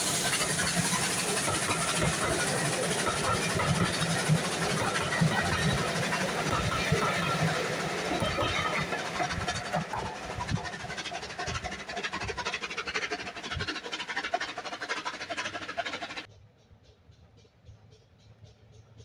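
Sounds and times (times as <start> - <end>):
train rushing noise: 0.0 - 19.0
train wheels clattering on track: 0.0 - 19.0.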